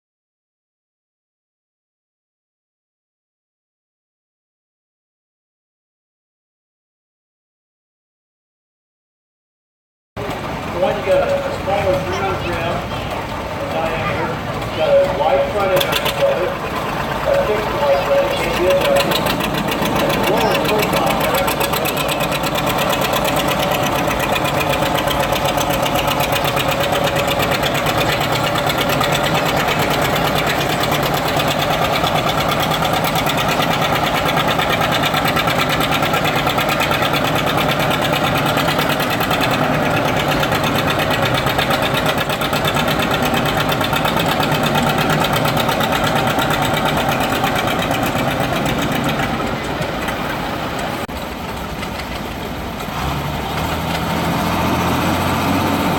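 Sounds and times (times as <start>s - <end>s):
tractor engine running: 10.2s - 55.9s.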